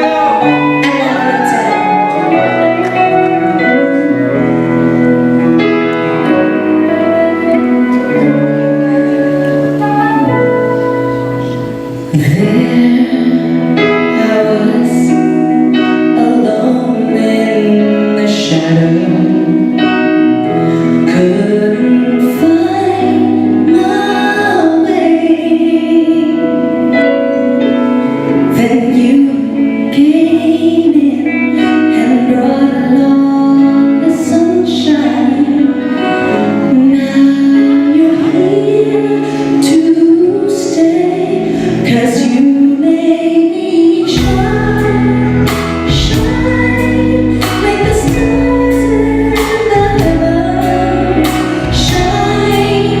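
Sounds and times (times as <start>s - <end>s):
live band music: 0.0s - 53.0s
person singing: 0.0s - 53.0s.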